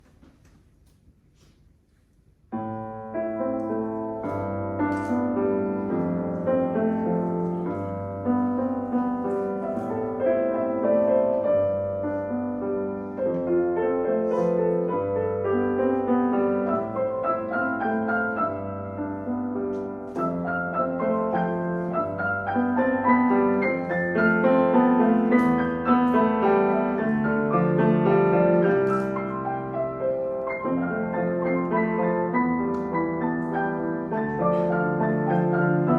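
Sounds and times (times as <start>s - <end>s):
flowing piano piece: 2.4s - 35.9s.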